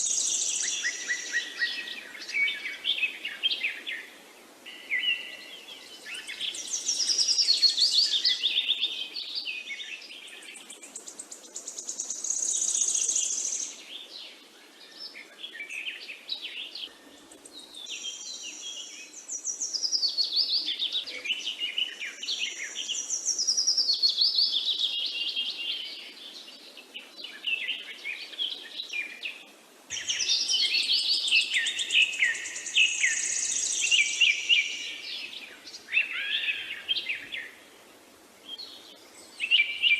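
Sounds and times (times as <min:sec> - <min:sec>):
songbirds warbling: 0:00.0 - 0:39.9.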